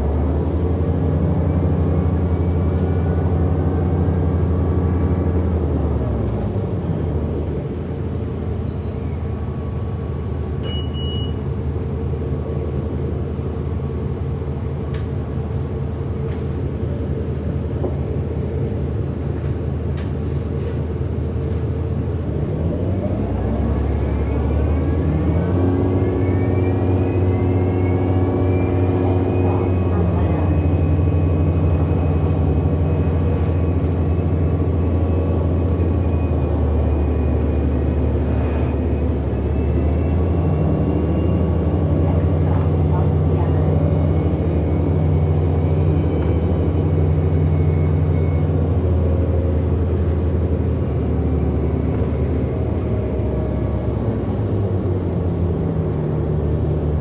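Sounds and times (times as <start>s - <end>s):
bus hybrid drive whining: 0.0s - 57.0s
road rumble: 0.0s - 57.0s.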